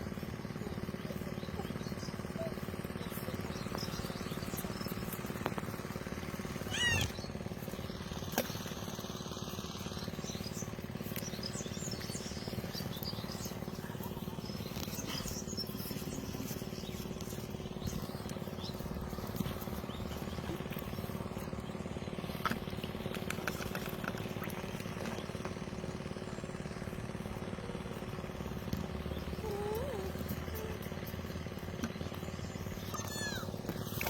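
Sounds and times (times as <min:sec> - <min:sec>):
outdoor background noise: 0:00.0 - 0:34.0
birds chirping: 0:00.6 - 0:34.0.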